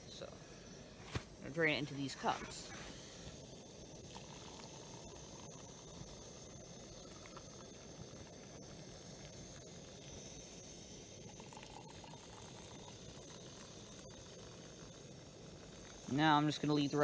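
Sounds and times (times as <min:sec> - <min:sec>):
water trickling into mugs: 0:01.5 - 0:17.0.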